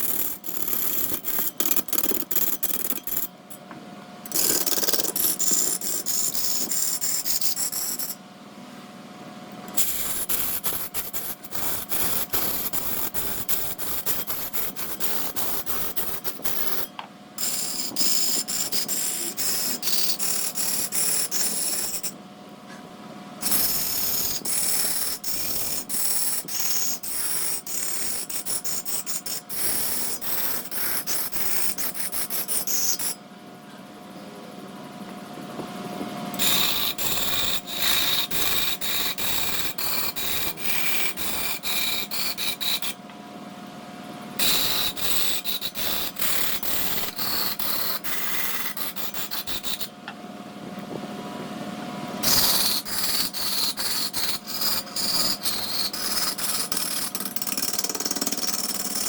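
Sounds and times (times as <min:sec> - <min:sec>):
turning tool scraping wood: 0:00.0 - 0:03.3, 0:04.3 - 0:08.2, 0:09.7 - 0:22.1, 0:23.4 - 0:33.2, 0:36.4 - 0:43.0, 0:44.4 - 0:49.9, 0:52.2 - 0:59.0.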